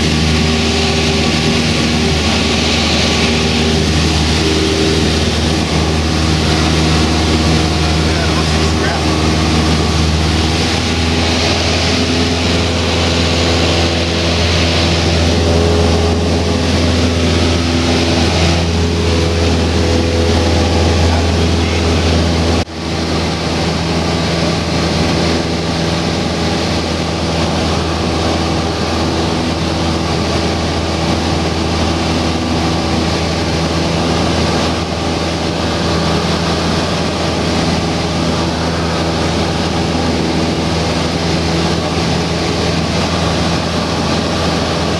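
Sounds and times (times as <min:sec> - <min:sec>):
propeller plane engine droning: 0:00.0 - 0:44.9.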